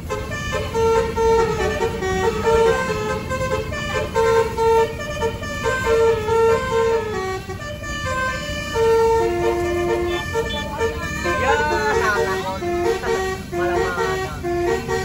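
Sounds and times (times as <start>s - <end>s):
bus engine rumble: 0.0s - 15.0s
bus multi-tone horn tune: 0.0s - 15.0s.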